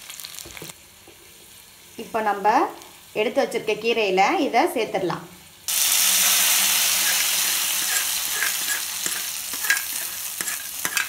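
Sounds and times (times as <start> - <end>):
hot oil sizzling loudly: 0.0 - 11.0.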